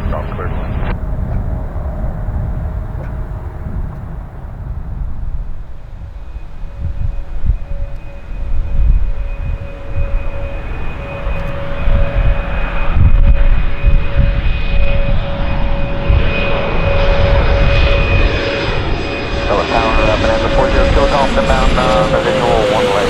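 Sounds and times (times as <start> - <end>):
jet engines whining: 0.0 - 23.0
jet rushing noise: 0.0 - 23.0.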